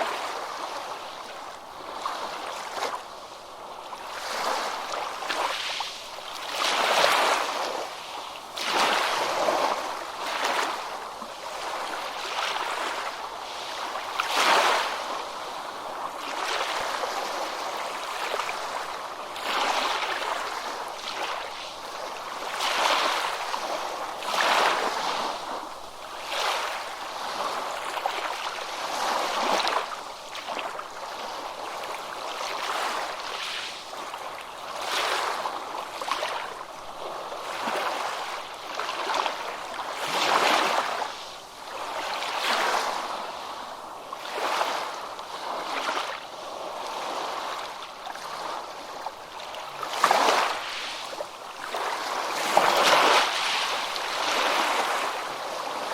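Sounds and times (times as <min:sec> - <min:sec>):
small waves washing onto beach: 0:00.0 - 0:55.9.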